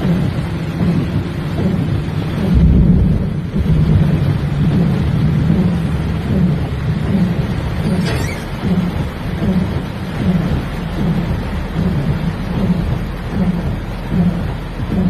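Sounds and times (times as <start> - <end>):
heavy rain: 0.0 - 15.0
rushing floodwater: 0.0 - 15.0.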